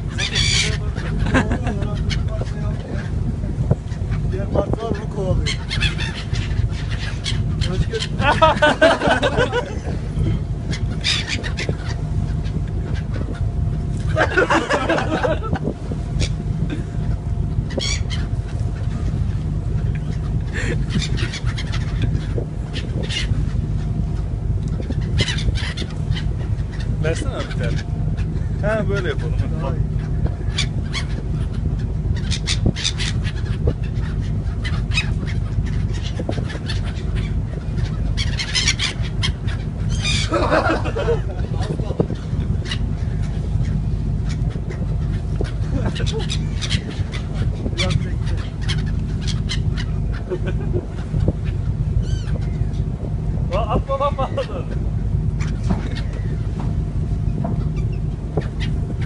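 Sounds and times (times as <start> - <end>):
gulls calling: 0.0 - 59.0
steady low rumble: 0.0 - 59.0.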